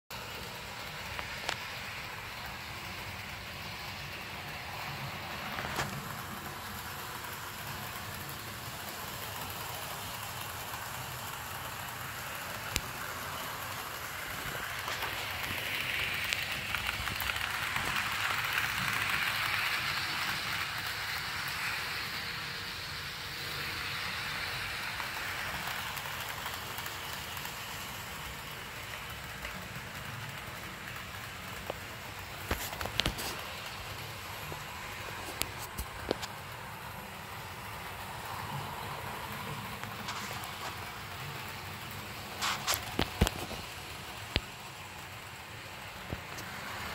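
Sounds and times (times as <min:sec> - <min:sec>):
model train motor whirring: 0:00.2 - 0:46.9.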